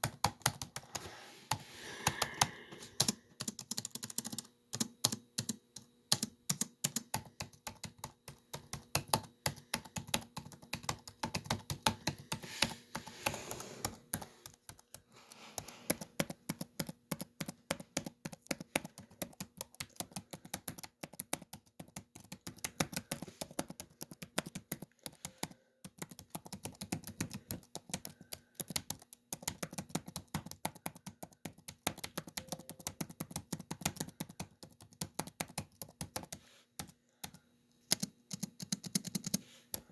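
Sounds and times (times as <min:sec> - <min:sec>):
laptop keyboard typing: 0:00.0 - 0:39.9.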